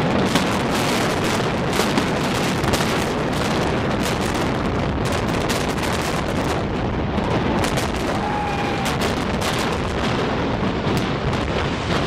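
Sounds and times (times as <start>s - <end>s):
low rumble of collapse: 0.0s - 12.0s.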